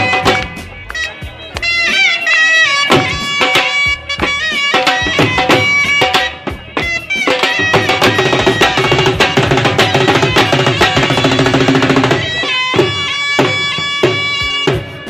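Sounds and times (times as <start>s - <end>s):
reedy wind instrument melody: 0.0s - 15.0s
fast dense drumming: 2.9s - 15.0s.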